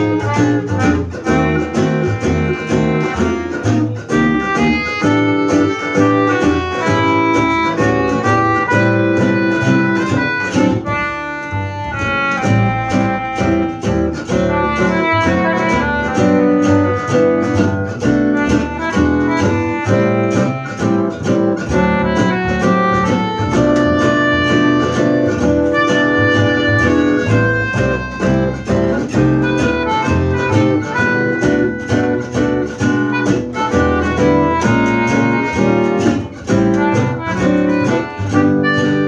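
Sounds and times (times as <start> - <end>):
concertina notes: 0.0 - 39.0
strummed acoustic guitars: 0.0 - 39.0
walking upright bass: 0.0 - 39.0.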